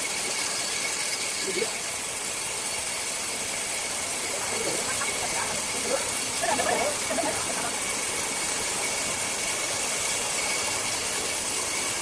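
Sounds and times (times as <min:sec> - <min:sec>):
circular saw hiss and whine: 0:00.0 - 0:12.0.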